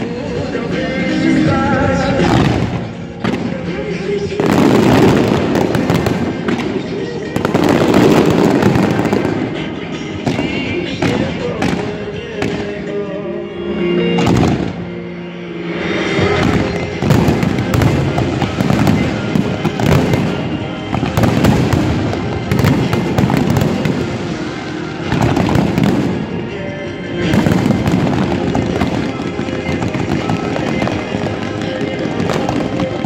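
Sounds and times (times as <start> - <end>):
fireworks bangs and crackle: 0.0 - 13.1, 14.0 - 15.0, 15.7 - 33.0
music playing: 0.0 - 33.0.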